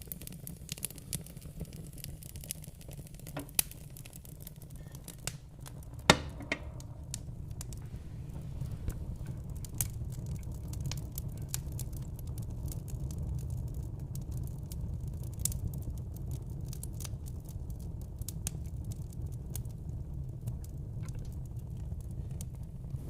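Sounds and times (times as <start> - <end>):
low rumble of flames: 0.0 - 23.0
wood fire crackling and popping: 0.0 - 23.0.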